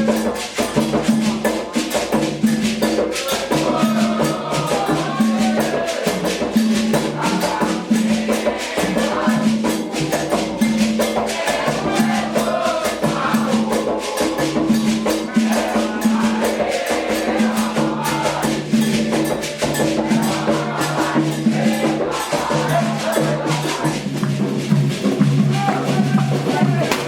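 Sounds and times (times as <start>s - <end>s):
drums and shakers rhythm: 0.0s - 27.0s
voices singing: 0.0s - 27.0s.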